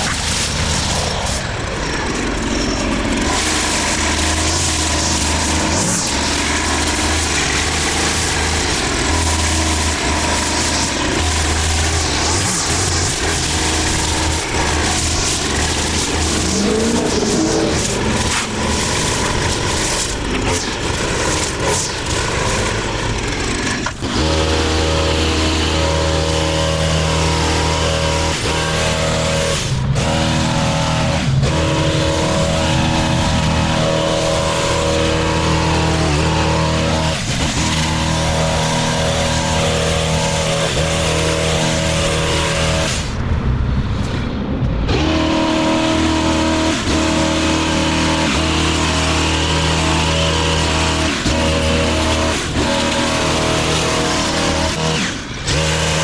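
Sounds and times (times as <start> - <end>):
hedge trimmer engine running: 0.0 - 43.4, 44.9 - 56.0.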